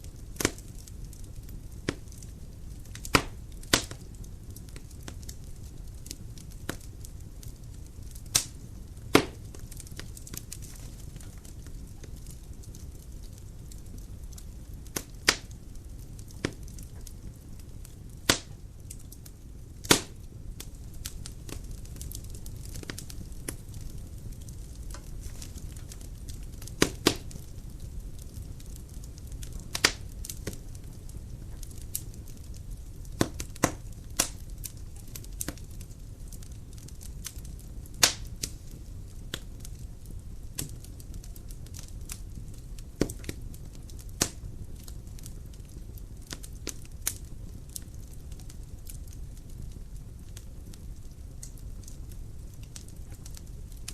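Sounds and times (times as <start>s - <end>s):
fire rumbling: 0.0s - 53.9s
firewood crackling and popping: 0.0s - 53.9s.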